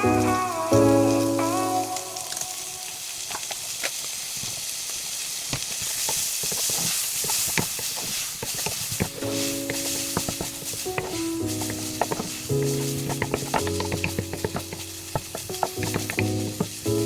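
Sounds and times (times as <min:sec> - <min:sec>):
crackles and pops of frying: 0:00.0 - 0:17.0
food sizzling in a pan: 0:00.0 - 0:17.0.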